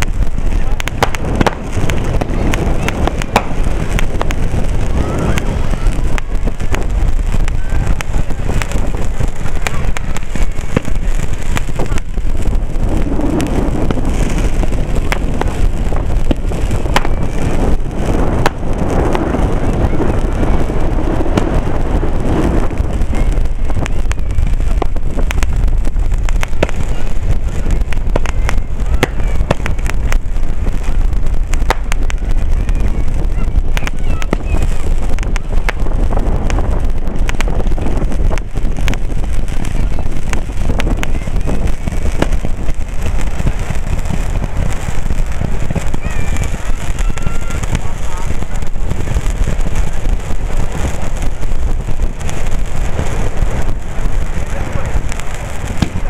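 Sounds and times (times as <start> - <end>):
fireworks cracking and popping: 0.0 - 56.0.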